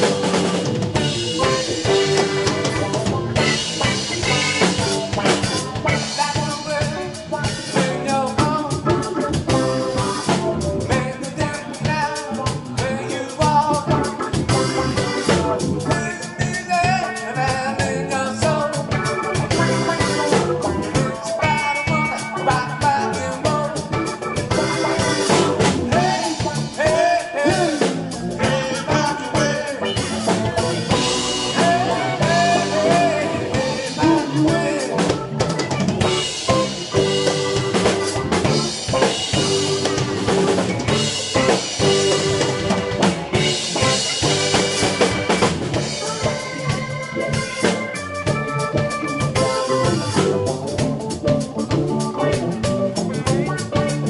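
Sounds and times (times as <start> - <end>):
drum kit: 0.0 - 54.0
live funk band playing: 0.0 - 54.0.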